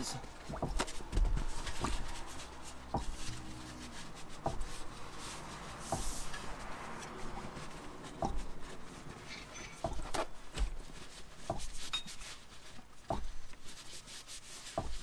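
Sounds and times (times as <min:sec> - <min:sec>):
paper towels rustling: 0:00.0 - 0:15.0.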